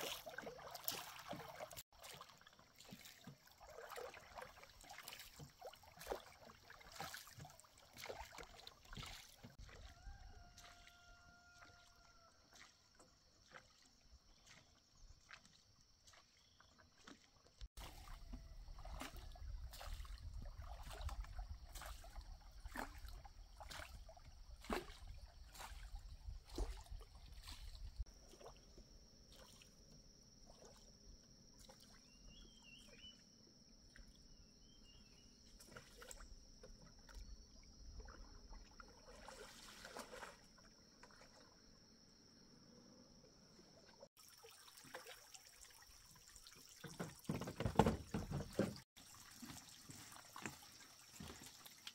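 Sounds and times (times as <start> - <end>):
water trickling and splashing: 0.0 - 42.2, 43.4 - 51.9.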